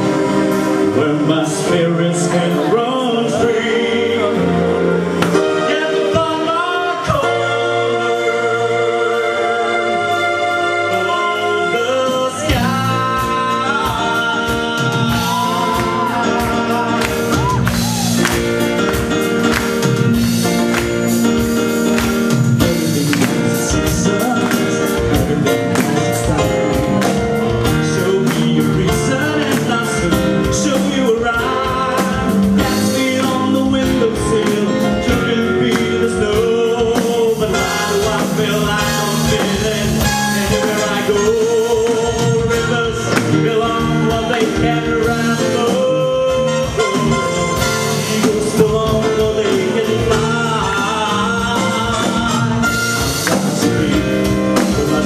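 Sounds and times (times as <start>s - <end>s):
lead melody line: 0.0s - 55.0s
live band playing: 0.0s - 55.0s.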